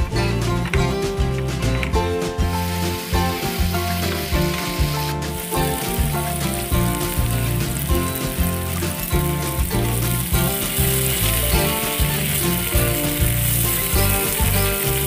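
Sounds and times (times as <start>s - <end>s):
instrumental music: 0.0s - 15.0s
curry sizzling in a pan: 1.1s - 15.0s.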